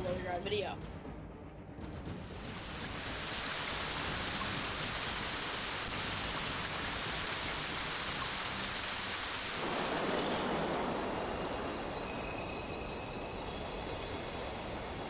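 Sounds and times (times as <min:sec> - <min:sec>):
heavy rain hissing: 0:02.2 - 0:15.0.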